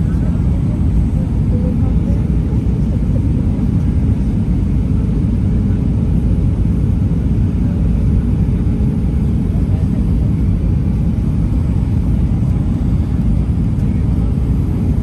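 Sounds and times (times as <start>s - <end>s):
airliner engine and airflow rumble: 0.0s - 15.0s.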